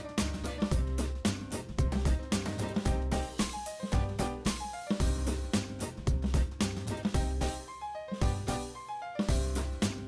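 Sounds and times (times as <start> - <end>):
music with drum beat and bass: 0.0 - 10.0.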